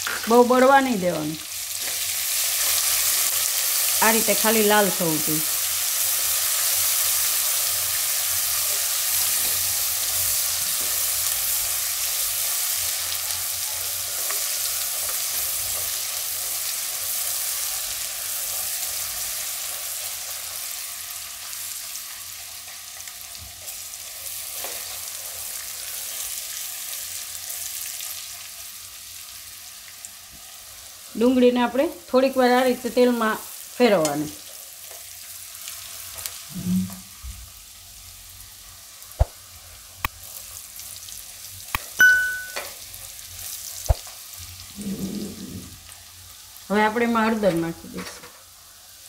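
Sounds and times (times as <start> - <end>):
onions sizzling in hot oil: 0.0 - 49.0.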